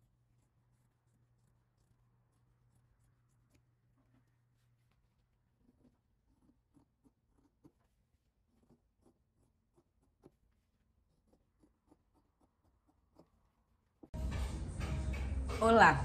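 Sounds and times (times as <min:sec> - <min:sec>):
scissors snipping fabric: 0:00.0 - 0:05.0, 0:05.6 - 0:14.2.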